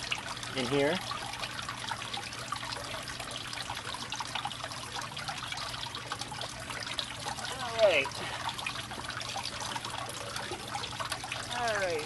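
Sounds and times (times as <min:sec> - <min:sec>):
water trickling into a tub: 0:00.0 - 0:12.0.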